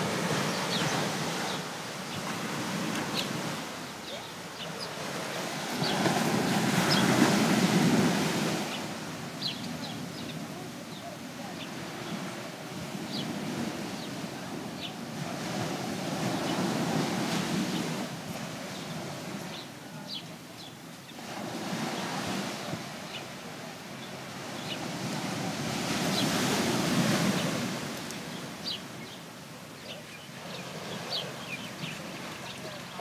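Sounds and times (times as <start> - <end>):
ocean surf on rocky shore: 0.0 - 33.0.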